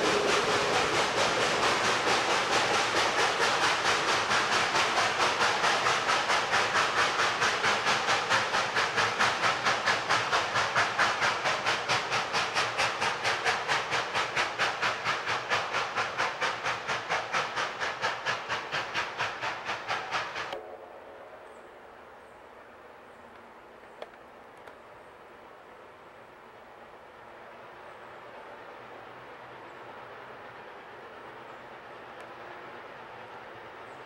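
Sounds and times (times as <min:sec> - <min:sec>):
steam hiss: 0:00.0 - 0:21.2, 0:25.2 - 0:34.0
steam locomotive chuffing: 0:00.0 - 0:34.0.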